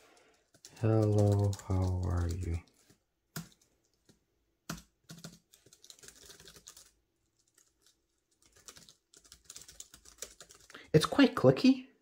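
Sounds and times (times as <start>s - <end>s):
clicky keyboard typing: 0.1s - 10.7s.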